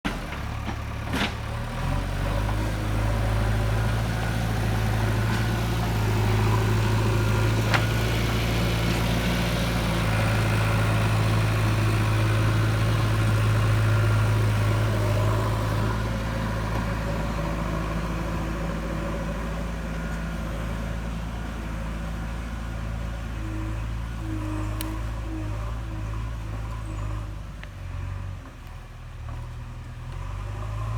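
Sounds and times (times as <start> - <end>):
diesel engine running: 0.1 - 30.9
loader bucket cutting soil: 0.1 - 30.9.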